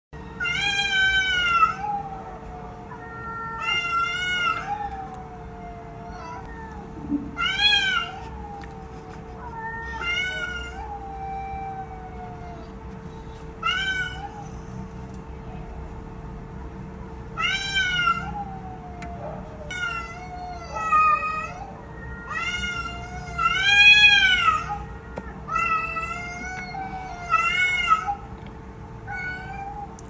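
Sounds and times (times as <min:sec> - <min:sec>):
cat meowing: 0:00.4 - 0:12.9, 0:13.6 - 0:15.1, 0:17.4 - 0:28.4, 0:29.1 - 0:30.0.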